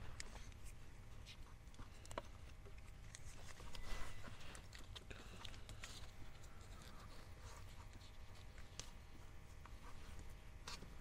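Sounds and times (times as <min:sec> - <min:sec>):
tape rustling and crackling: 0:00.0 - 0:11.0.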